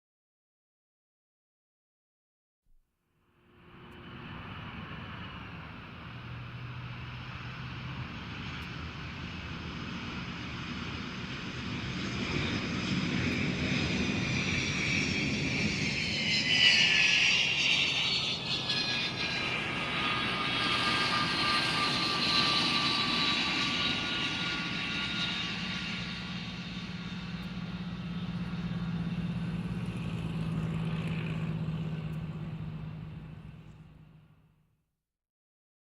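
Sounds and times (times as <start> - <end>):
jet engine whine: 3.3 - 34.4
jet engine rumble: 3.4 - 34.3.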